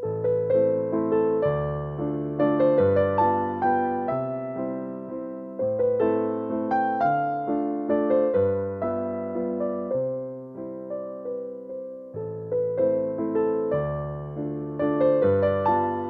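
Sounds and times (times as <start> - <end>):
slow solo piano waltz: 0.0 - 16.0.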